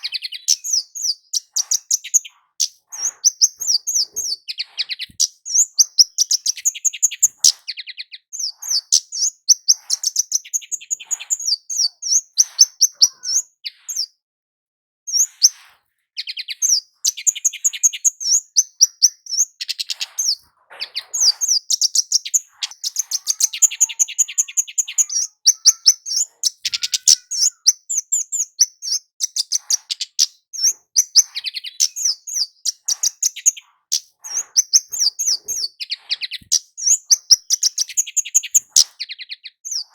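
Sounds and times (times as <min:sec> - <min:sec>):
bird singing high thin chirps: 0:00.0 - 0:14.2, 0:15.1 - 0:39.9.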